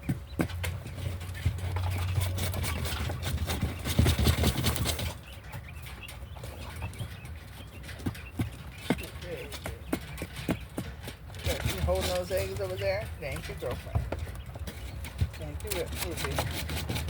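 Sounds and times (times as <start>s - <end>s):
hens pecking taps: 0.0s - 17.0s.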